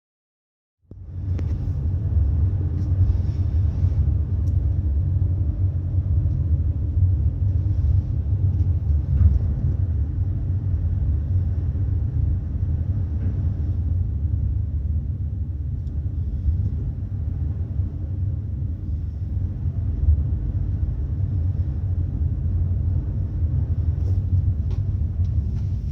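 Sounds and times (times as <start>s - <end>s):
ship engines rumbling: 0.9s - 25.9s.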